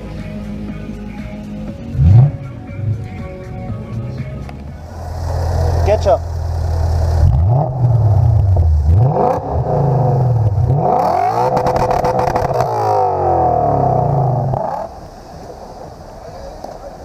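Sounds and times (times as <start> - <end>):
car engine revving: 1.9 - 15.8.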